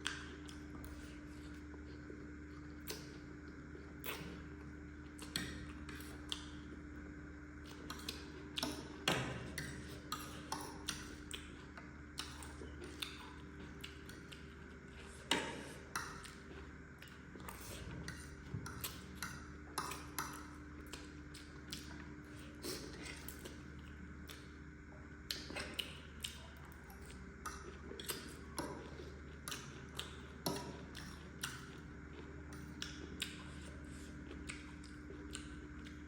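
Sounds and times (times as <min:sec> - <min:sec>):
chewing food: 0:00.0 - 0:36.0
faint steady hum: 0:00.0 - 0:36.0.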